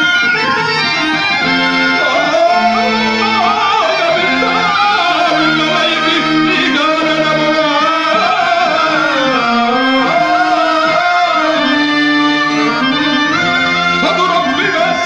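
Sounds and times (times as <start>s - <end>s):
harmonium notes: 0.0s - 15.0s
man singing ornamented verse: 1.8s - 15.0s.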